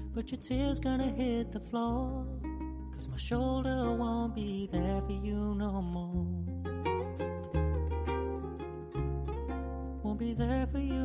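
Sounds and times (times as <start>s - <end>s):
plucked harp-like strings: 0.0s - 11.0s.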